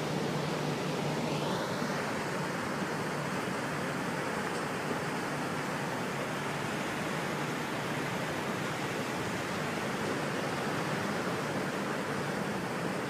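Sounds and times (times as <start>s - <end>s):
propeller wash rushing water: 0.0s - 13.0s.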